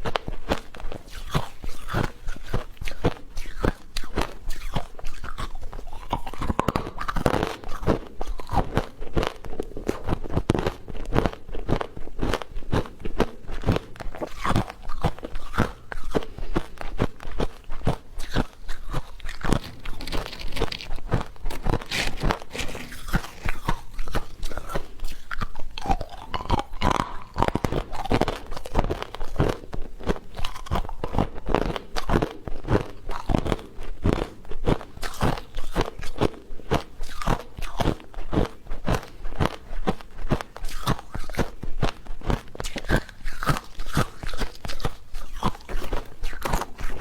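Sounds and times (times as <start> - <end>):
crunching and chewing: 0.0 - 47.0.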